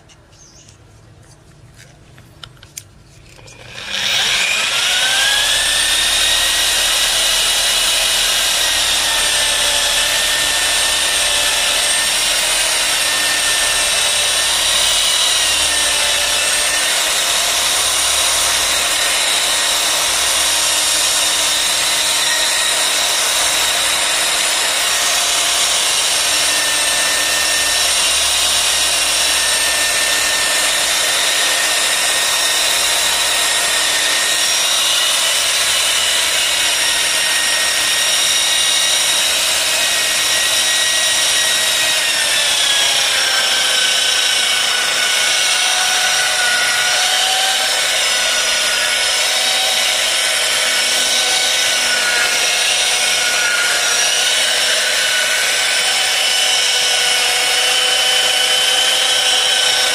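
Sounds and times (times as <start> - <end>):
polisher motor whine: 3.3 - 59.9.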